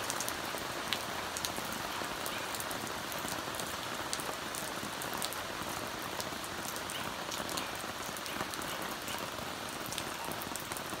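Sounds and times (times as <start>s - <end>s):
rain hissing on leaves: 0.0s - 11.0s
raindrops ticking on leaves: 0.0s - 11.0s.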